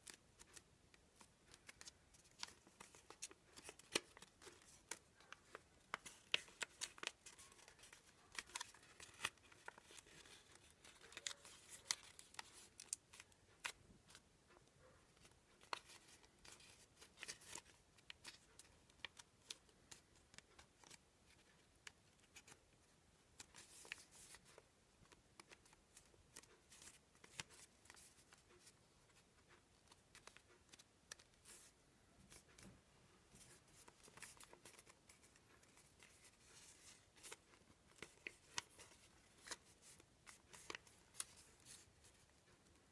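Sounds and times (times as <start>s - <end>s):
paper rustling and crinkling: 1.2s - 14.2s, 15.2s - 22.6s, 23.4s - 28.8s, 29.8s - 42.6s.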